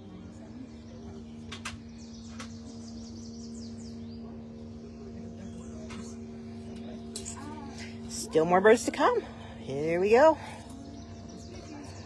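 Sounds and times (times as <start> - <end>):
steady low hum: 0.0 - 12.0
songbird singing: 0.6 - 12.0.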